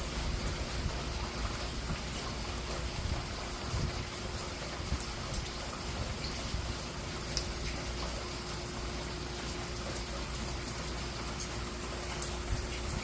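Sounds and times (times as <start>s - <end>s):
dripping ticks: 0.0s - 13.0s
rain falling: 0.0s - 13.0s
running water: 0.0s - 13.0s.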